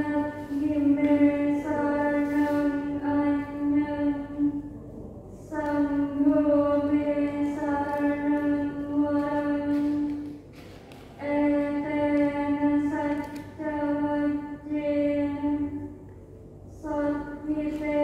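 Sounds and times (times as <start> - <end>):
woman chanting: 0.0 - 10.4, 11.2 - 16.0, 16.7 - 18.0.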